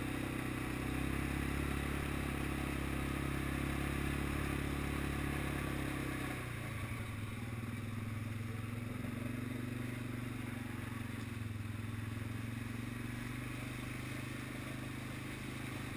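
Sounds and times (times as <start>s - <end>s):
quad bike engine running: 0.0s - 15.9s.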